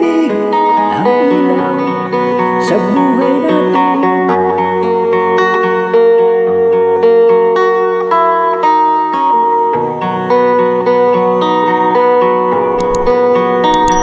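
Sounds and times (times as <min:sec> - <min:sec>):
guitar picked notes: 0:00.0 - 0:14.0.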